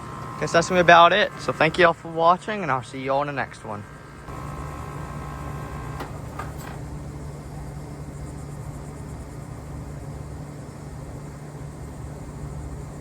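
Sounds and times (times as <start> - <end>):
heat pump compressor and fan hum: 0.0 - 13.0.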